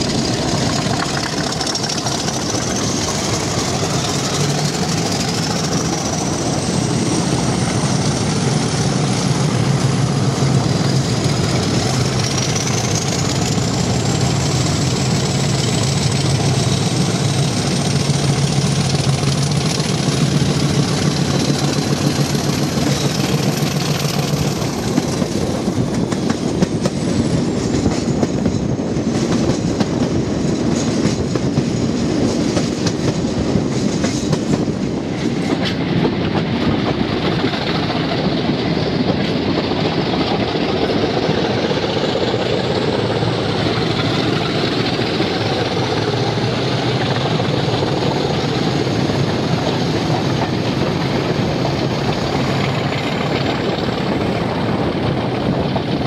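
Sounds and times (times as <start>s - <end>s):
diesel locomotive engine: 0.0s - 56.0s
wheel clatter on rails: 0.0s - 56.0s.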